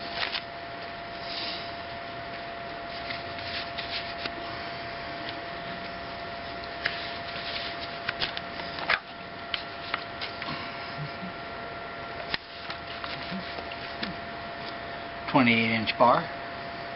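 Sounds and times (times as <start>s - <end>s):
rustling and handling noise: 0.0s - 11.2s, 12.2s - 14.8s
faint steady whine: 0.0s - 16.9s.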